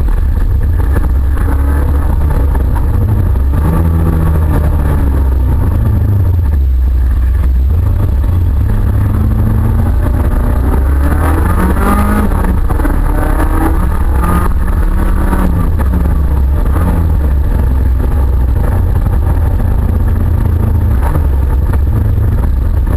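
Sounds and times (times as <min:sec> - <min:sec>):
car engine droning: 0:00.0 - 0:22.9.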